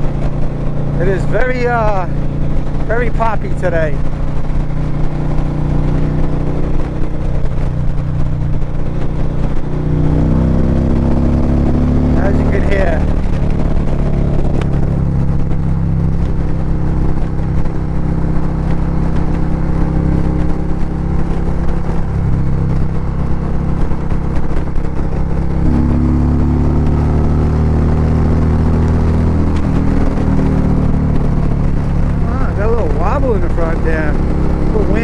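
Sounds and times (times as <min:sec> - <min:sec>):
exhaust popping: 0:00.0 - 0:35.0
motorcycle engine at speed: 0:00.0 - 0:35.0.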